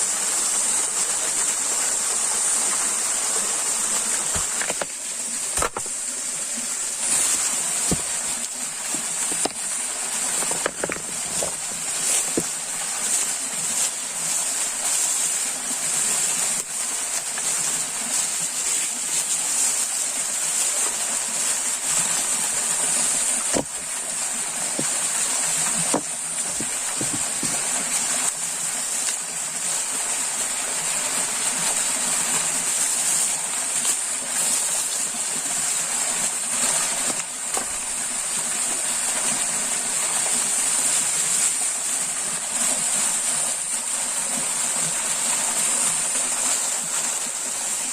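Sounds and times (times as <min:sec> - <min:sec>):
running water hissing: 0:00.0 - 0:47.9.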